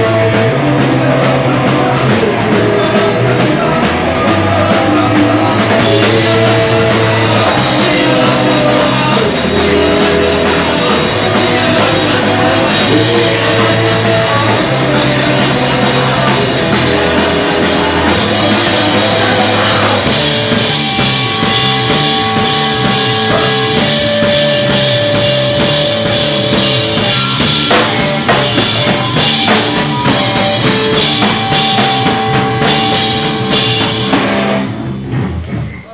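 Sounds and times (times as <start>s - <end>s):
live rock band playing: 0.0s - 35.7s.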